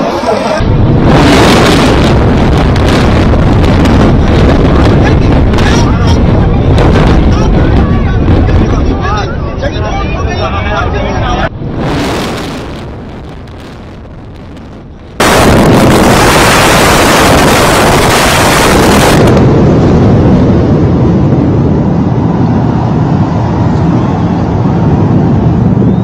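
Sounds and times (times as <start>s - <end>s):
building collapse roar: 0.0s - 9.0s, 11.6s - 25.7s.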